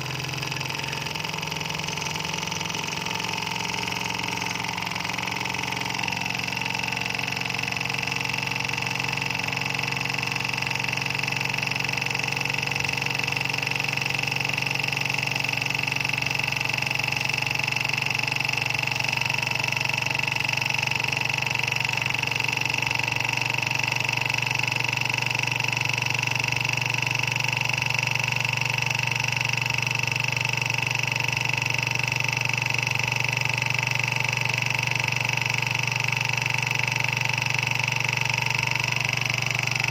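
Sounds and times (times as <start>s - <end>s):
model engine whirring: 0.0s - 39.9s.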